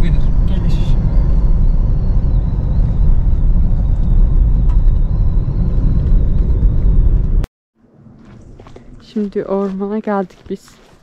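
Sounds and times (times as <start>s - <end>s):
car engine and tyre noise: 0.0s - 9.2s.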